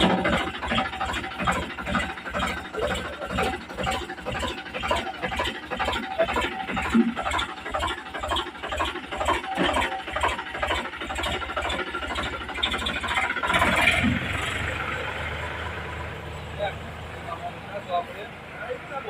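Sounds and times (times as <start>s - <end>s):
tractor diesel engine chugging: 0.0s - 19.0s.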